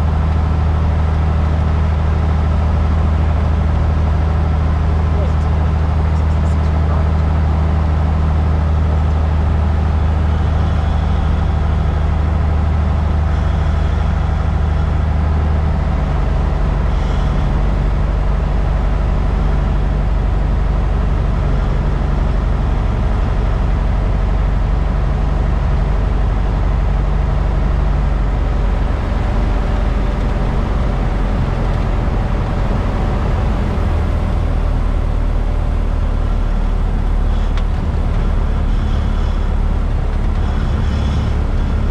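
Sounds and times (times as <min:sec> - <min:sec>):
plane engine and propeller droning: 0:00.0 - 0:41.9.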